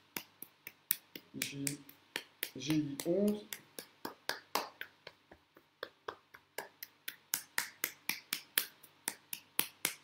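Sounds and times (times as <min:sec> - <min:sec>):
hand slapping along arm: 0:00.0 - 0:10.0.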